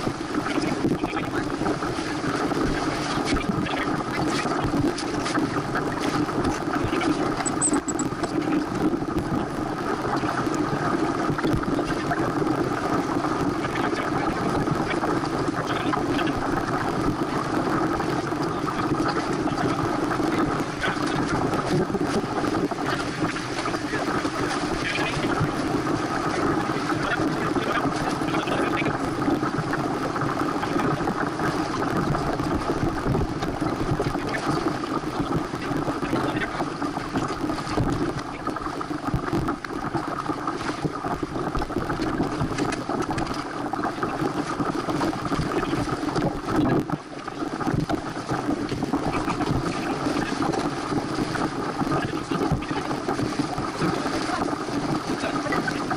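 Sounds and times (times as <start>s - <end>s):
water streaming along hull: 0.0s - 55.9s
wind on microphone: 0.0s - 55.9s.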